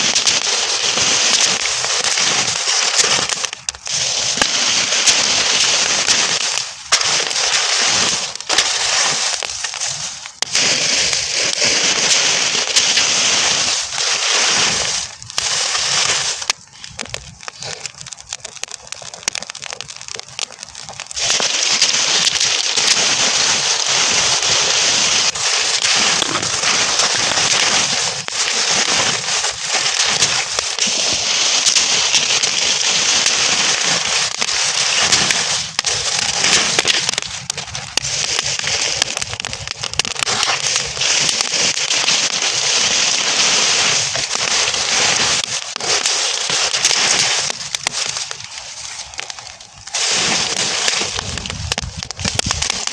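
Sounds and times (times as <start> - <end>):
burning straw crackling: 0.0 - 52.9.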